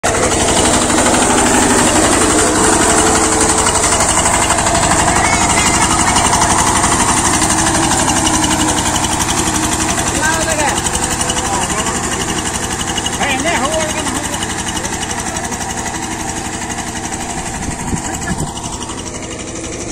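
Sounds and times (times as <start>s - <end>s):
power tiller engine chugging: 0.0s - 19.9s.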